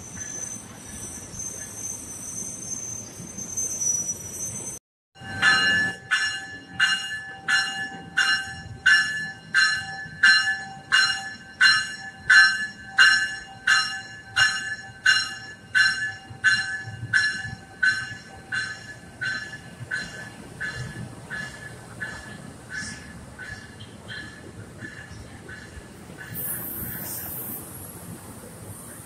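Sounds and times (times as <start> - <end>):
train bell ringing: 0.0 - 28.1
moving train rumble: 0.0 - 29.0.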